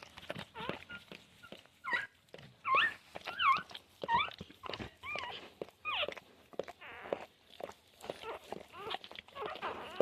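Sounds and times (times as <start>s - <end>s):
puppy crying in high squeaks: 0.3s - 6.2s, 6.8s - 7.3s, 8.1s - 10.0s.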